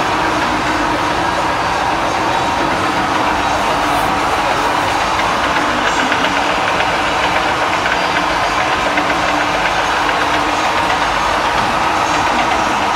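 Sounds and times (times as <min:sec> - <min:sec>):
lathe running: 0:00.0 - 0:12.9.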